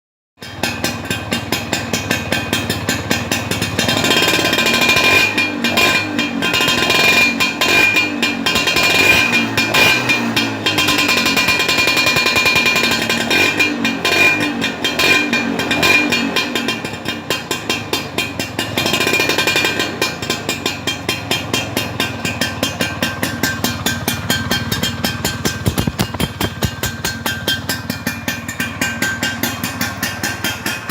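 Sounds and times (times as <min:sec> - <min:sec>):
scooter engine idling and revving: 0:00.4 - 0:30.9.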